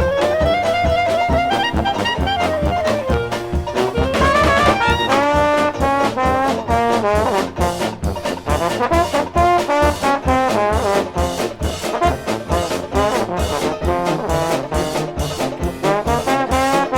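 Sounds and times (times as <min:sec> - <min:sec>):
dixieland jazz band playing: 0:00.0 - 0:16.9.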